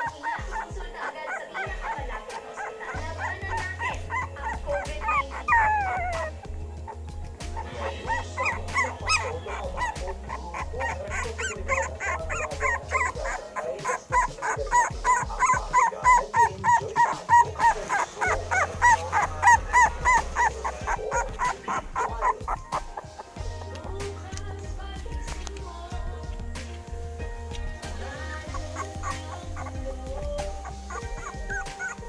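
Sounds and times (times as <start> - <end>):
puppies whimpering and yipping: 0.0 - 32.0.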